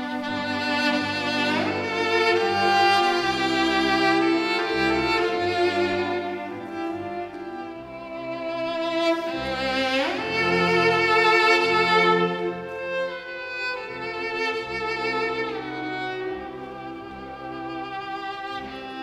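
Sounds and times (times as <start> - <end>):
solo cello melody: 0.0 - 19.0
string orchestra accompaniment: 0.0 - 19.0.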